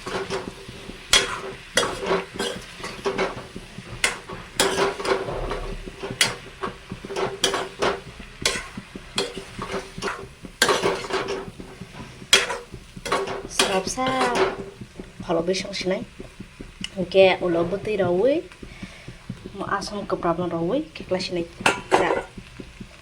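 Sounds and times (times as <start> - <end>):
utensil scraping a pan: 0.0 - 20.0, 21.6 - 22.7
potatoes sizzling: 0.0 - 23.0.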